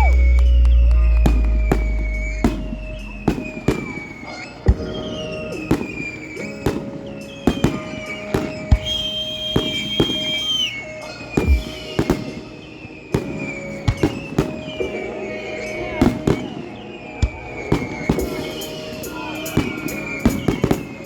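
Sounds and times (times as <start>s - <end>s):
fireworks banging: 0.0s - 21.0s
high falling whistles: 0.0s - 21.0s.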